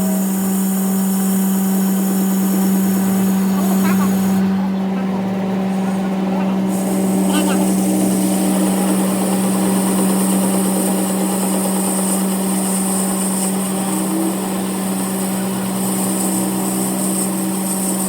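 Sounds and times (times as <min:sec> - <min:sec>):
machine motor humming: 0:00.0 - 0:18.0.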